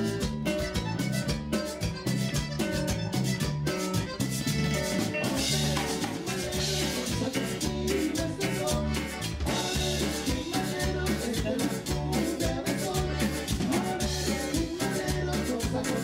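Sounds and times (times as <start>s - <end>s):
latin band music: 0.0s - 16.0s.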